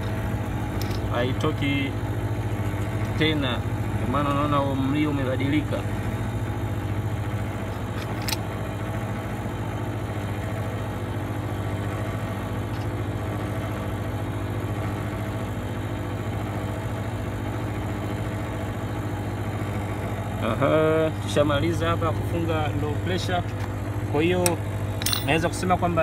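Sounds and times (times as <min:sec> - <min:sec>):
compressor humming: 0:00.0 - 0:26.0.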